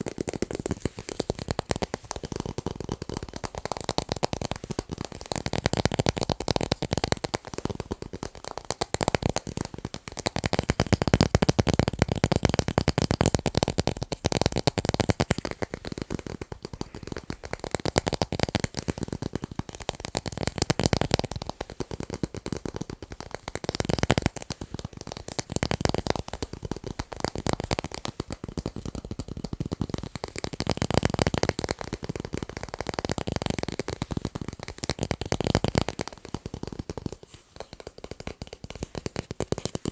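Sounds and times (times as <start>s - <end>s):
fast fingertip tapping on tape: 0.0s - 39.9s.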